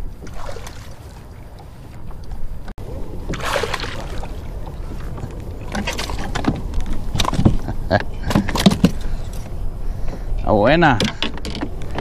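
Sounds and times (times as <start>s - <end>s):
water splashing and sloshing: 0.0s - 12.0s
wind rumble on microphone: 0.0s - 12.0s.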